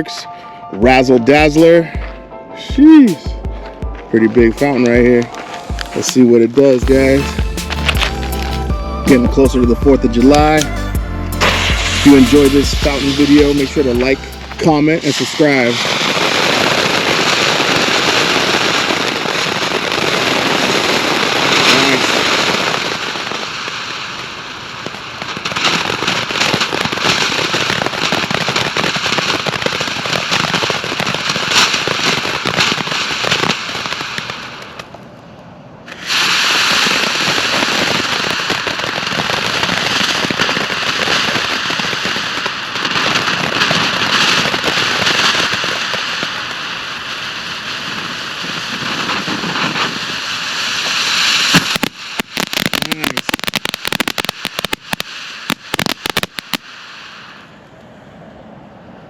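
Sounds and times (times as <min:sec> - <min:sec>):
fountain firework hissing and crackling: 0:04.2 - 0:34.9, 0:35.9 - 0:57.6.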